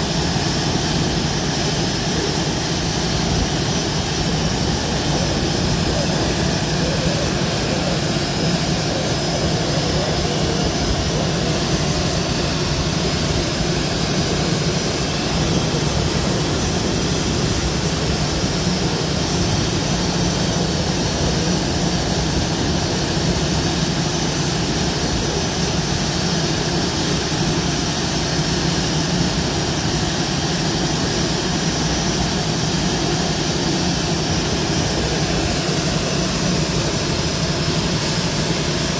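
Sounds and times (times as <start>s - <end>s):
jet engine running: 0.0s - 38.9s.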